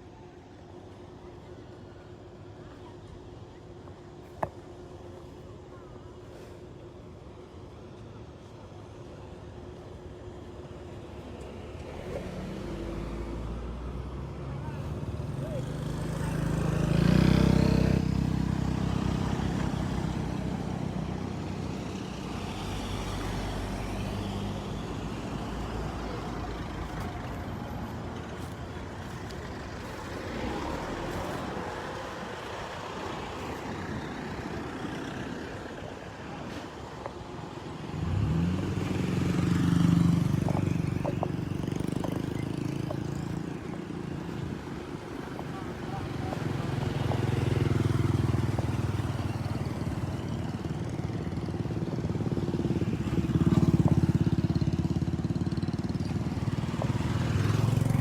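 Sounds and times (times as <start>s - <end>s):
outdoor background noise: 0.0s - 58.0s
vehicles passing on road: 0.0s - 58.0s.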